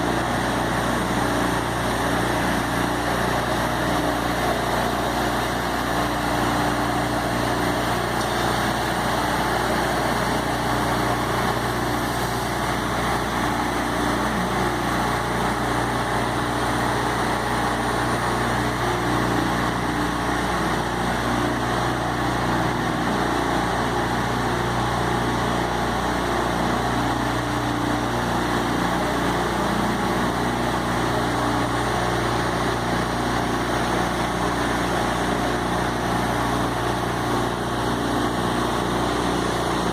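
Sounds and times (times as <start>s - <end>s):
floor scrubber motors droning: 0.0s - 39.9s.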